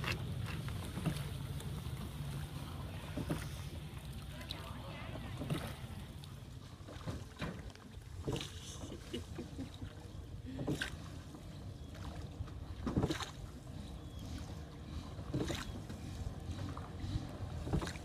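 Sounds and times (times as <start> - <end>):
oars splashing in water: 0.0 - 18.0.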